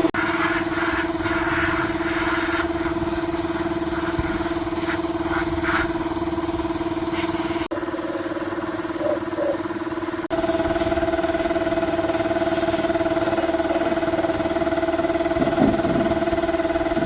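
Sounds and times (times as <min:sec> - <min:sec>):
small engine humming: 0:00.0 - 0:17.0.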